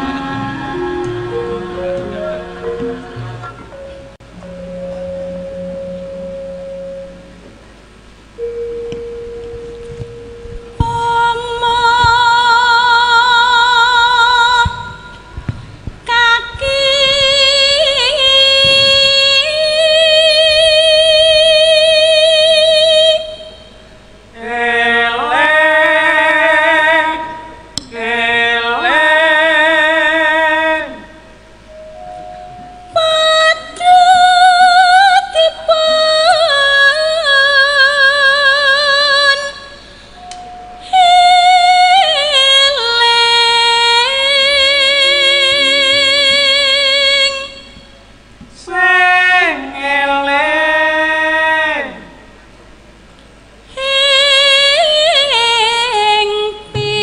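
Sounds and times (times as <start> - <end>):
woman singing with vibrato: 0.0 - 7.5, 8.4 - 52.4, 53.7 - 57.0.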